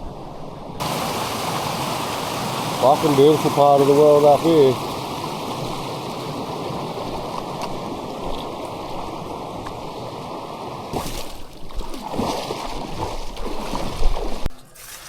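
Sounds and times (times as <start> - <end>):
river water flowing: 0.1 - 15.0
water splashing: 0.8 - 15.0.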